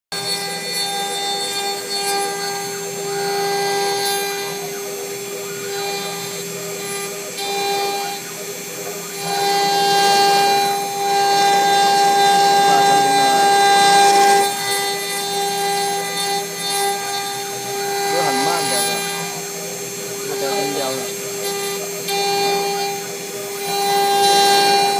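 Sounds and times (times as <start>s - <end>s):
bit carving wood: 0.1s - 24.9s
router spindle whine: 0.1s - 24.9s.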